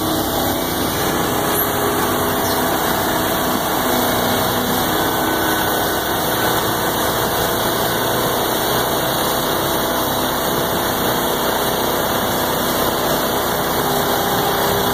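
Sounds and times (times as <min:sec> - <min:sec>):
machinery engines droning: 0:00.0 - 0:14.9.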